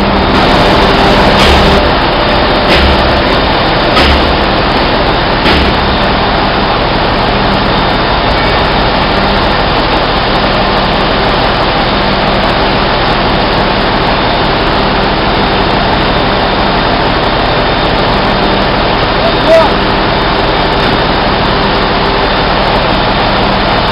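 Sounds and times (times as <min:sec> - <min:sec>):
engine room machinery roaring: 0:00.0 - 0:23.9
low hum: 0:00.0 - 0:23.9.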